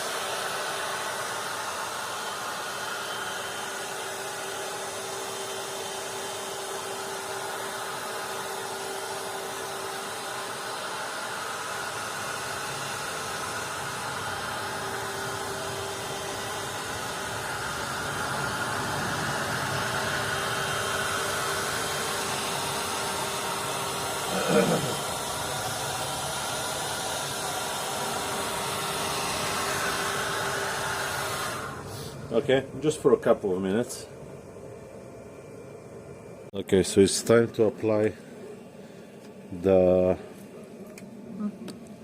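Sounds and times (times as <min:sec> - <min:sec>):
hot-air blower running: 0:00.0 - 0:42.0.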